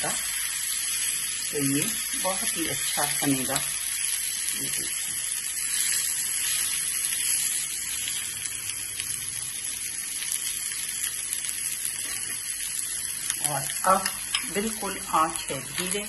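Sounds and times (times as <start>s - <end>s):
tomatoes sizzling in oil: 0.0s - 16.0s.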